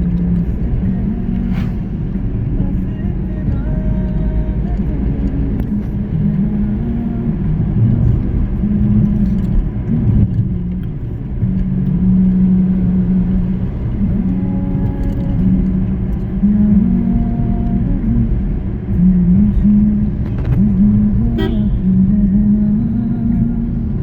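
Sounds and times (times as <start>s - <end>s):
road rumble: 0.0s - 24.0s
vehicle engine running: 0.0s - 24.0s.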